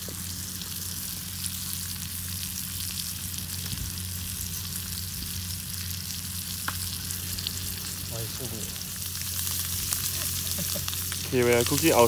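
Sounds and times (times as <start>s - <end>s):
fish sizzling in a pan: 0.0s - 12.0s
low steady hum: 0.0s - 12.0s.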